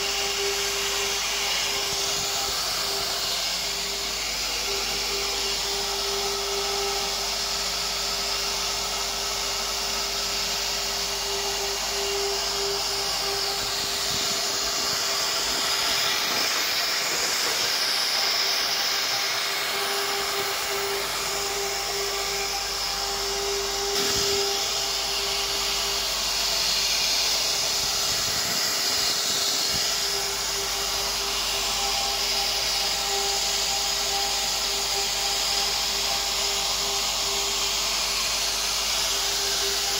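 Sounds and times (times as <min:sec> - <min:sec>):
hiss of cutting: 0:00.0 - 0:39.9
router spindle whine: 0:00.0 - 0:39.9.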